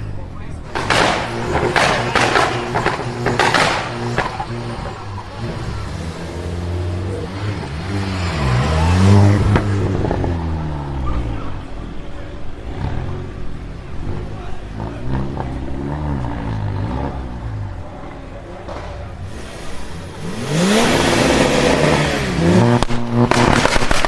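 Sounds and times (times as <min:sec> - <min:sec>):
car engine revving: 0:00.0 - 0:24.0
exhaust crackles and pops: 0:00.0 - 0:24.0.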